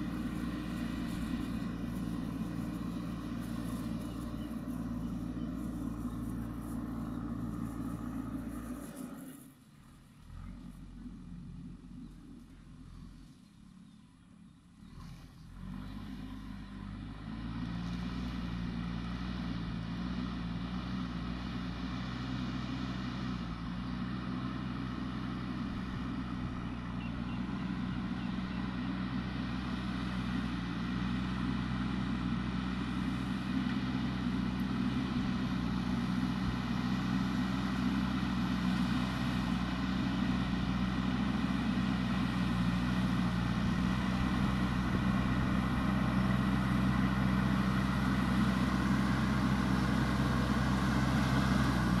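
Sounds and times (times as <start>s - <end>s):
diesel engine running under load: 0.0s - 52.0s.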